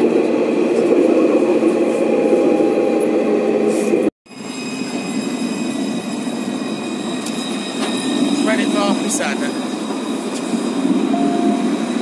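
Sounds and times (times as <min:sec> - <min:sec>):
tram high-pitched tones: 0:00.0 - 0:12.0
tram rumbling on track: 0:00.0 - 0:12.0.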